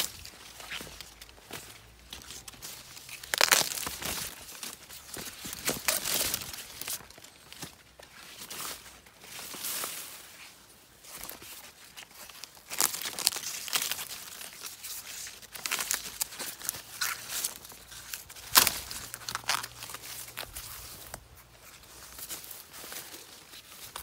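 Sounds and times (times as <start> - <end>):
corn leaves rustling and crackling: 0.0 - 24.0.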